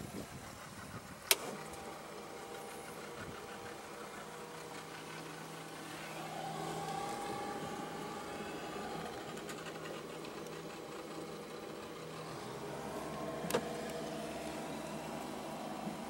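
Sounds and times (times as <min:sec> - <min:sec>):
blower fan humming: 0:00.0 - 0:16.0.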